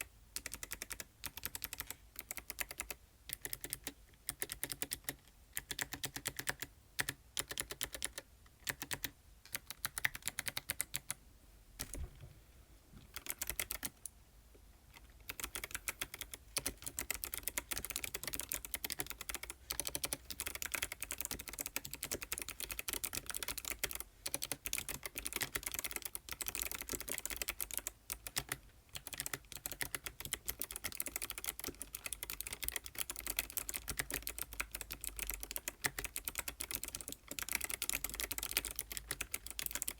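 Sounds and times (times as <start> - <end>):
mechanical keyboard typing: 0.0 - 11.2, 13.1 - 14.0, 15.0 - 39.9.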